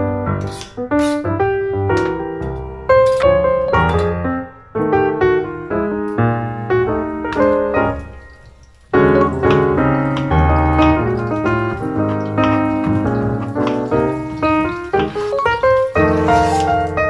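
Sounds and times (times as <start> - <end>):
piano melody of short notes: 0.0 - 17.0.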